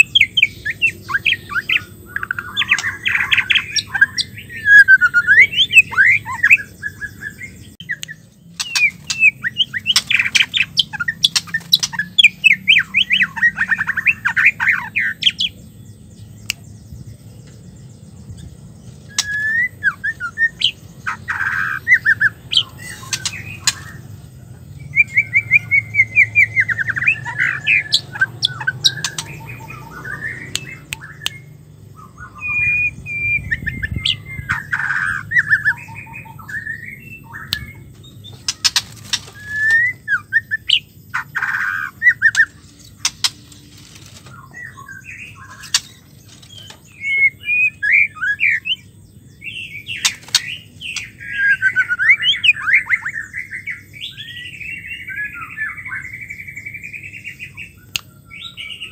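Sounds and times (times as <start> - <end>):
bird chattering and whistling: 0.0 - 15.6, 18.9 - 24.2, 24.8 - 58.9.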